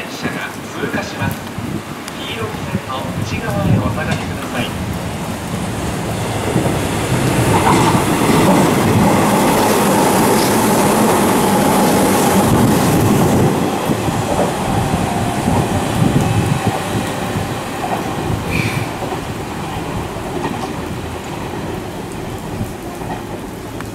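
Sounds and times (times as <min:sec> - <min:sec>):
electric train passing at speed: 0:00.0 - 0:23.9.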